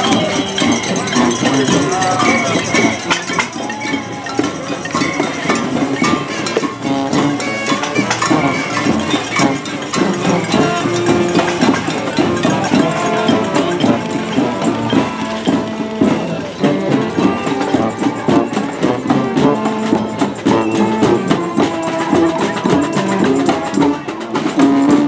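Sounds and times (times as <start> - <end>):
bells and noisemakers rattling: 0.0 - 25.0
brass horn notes: 0.0 - 25.0
crowd shouting: 0.0 - 25.0.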